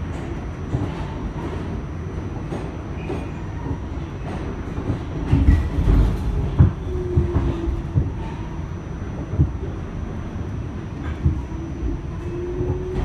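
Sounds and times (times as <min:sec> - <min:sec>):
subway car rumble and wheel clatter: 0:00.0 - 0:13.0.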